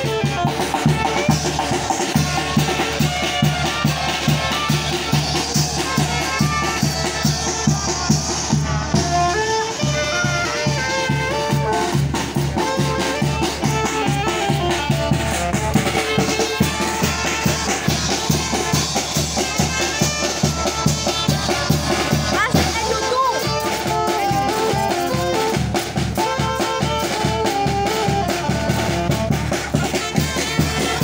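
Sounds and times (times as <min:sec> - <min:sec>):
bass drum beat: 0:00.0 - 0:31.0
cymbal and snare drum: 0:00.0 - 0:31.0
saxophones playing melody: 0:00.0 - 0:31.0.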